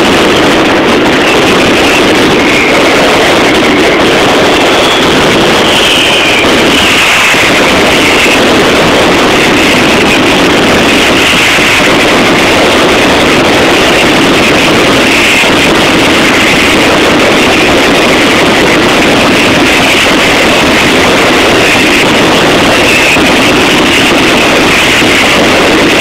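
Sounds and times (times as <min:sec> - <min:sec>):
firecrackers exploding rapidly: 0:00.0 - 0:26.0.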